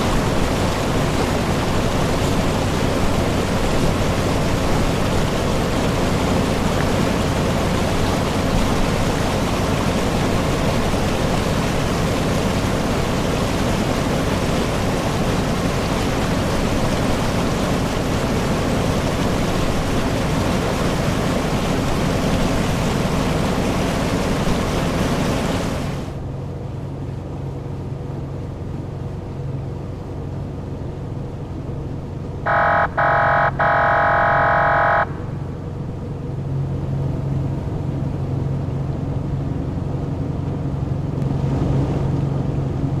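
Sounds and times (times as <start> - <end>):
boat engine droning: 0.0 - 43.0
water rushing along hull: 0.0 - 43.0.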